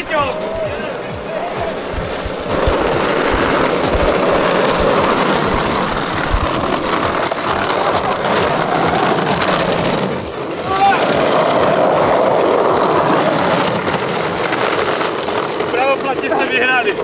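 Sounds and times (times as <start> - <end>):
casters rattling over asphalt: 0.0 - 17.0.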